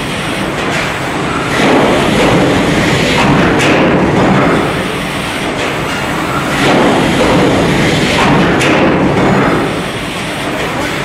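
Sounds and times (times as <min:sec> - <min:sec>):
stamping press clatter and rumble: 0:00.0 - 0:11.0.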